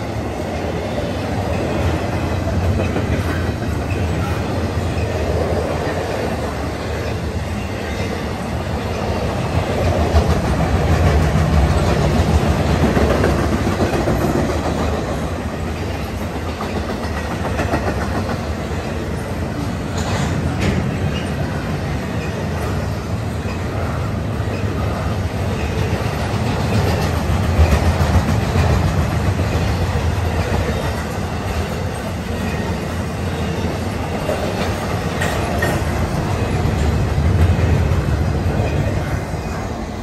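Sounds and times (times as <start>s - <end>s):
freight train cars rolling past: 0.0s - 40.0s.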